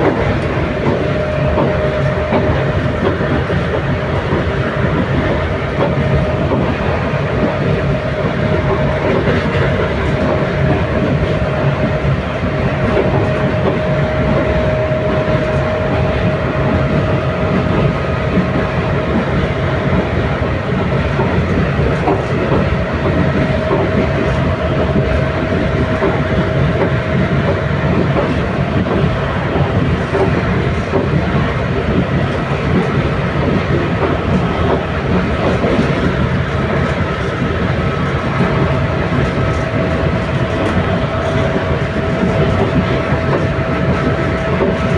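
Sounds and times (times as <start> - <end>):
train rumbling on track: 0.0 - 44.9.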